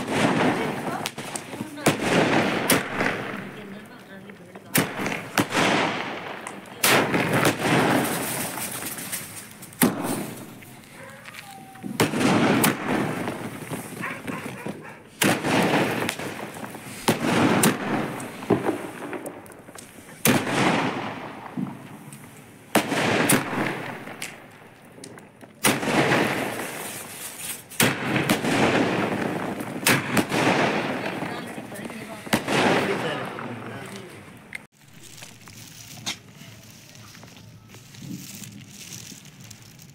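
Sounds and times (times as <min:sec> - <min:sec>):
fireworks bursting: 0:00.0 - 0:39.9
fireworks crackle: 0:00.0 - 0:39.9.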